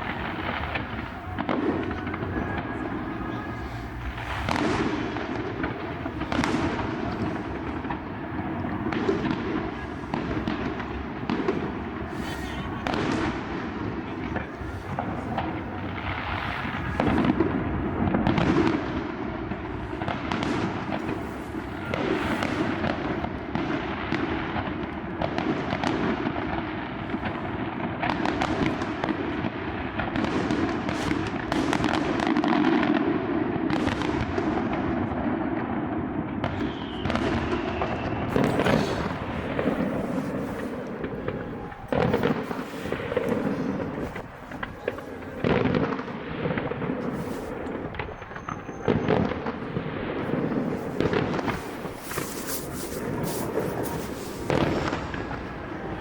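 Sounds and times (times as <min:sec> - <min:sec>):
fireworks bursting and crackling: 0:00.0 - 0:56.0
loud fireworks booms: 0:00.0 - 0:56.0.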